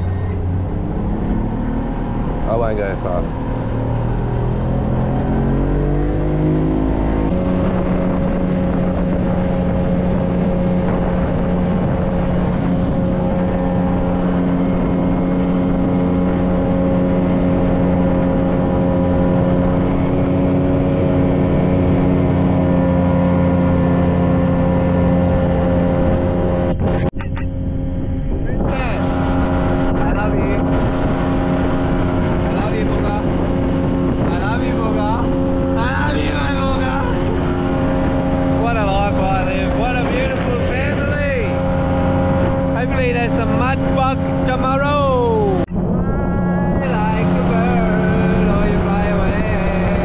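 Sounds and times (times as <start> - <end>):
outboard motor revving: 0.0 - 50.0.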